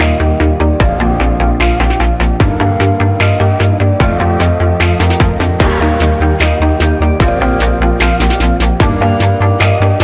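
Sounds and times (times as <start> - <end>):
electronic music with pulsing bass: 0.0 - 10.0.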